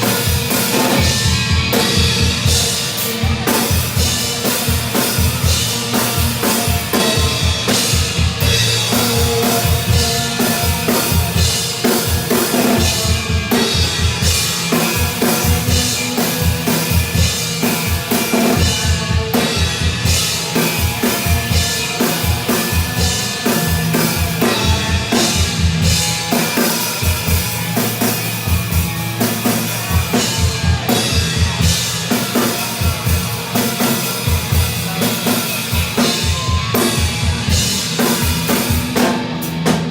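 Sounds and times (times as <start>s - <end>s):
drum kit played fast: 0.0s - 39.9s.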